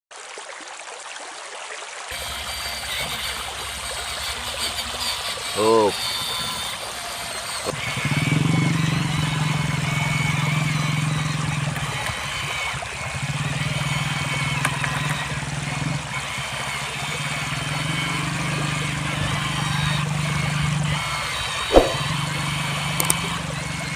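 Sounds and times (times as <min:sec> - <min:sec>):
toy excavator motors humming: 0:02.1 - 0:23.9.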